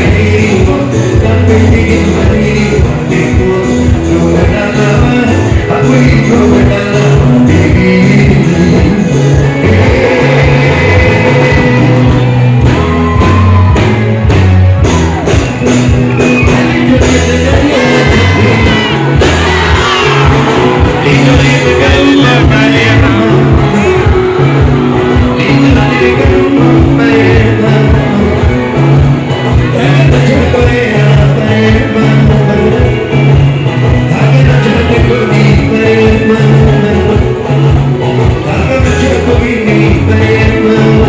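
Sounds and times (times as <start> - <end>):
live band music through a pa: 0.0 - 41.0
person singing: 0.0 - 41.0
repeating bass beat: 0.0 - 41.0.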